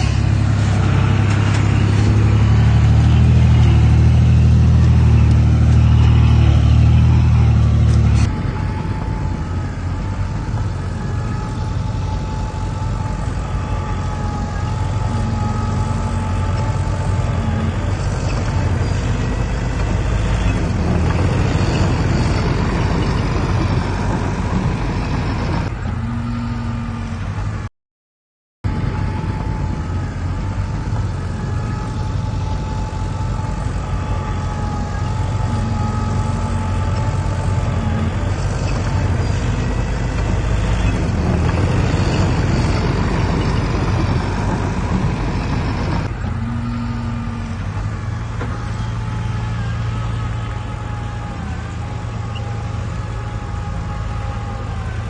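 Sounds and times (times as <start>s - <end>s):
diesel engine rumbling: 0.0s - 27.7s, 28.6s - 55.0s.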